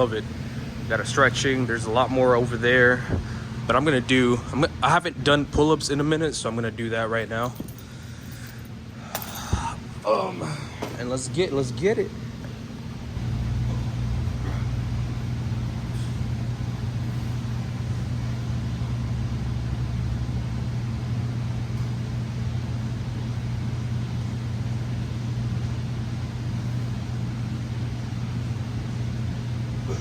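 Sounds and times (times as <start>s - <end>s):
ventilation system humming: 0.0s - 30.0s.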